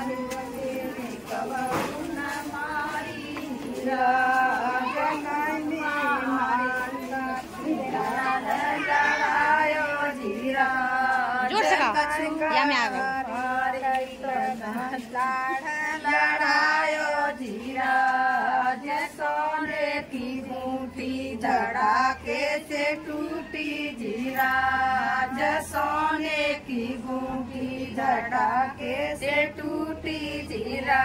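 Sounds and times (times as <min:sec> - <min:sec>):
women singing folk song: 0:00.0 - 0:31.0.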